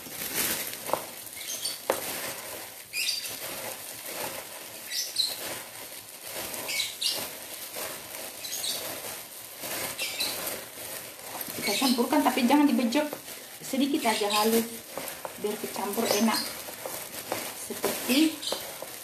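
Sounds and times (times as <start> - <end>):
plastic gloves crinkling: 0.0 - 19.0.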